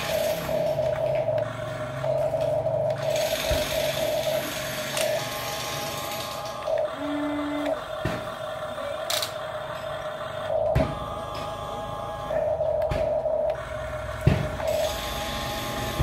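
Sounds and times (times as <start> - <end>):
lower-pitched motor tone: 0.0 - 16.0
small electric motors whining: 0.0 - 16.0.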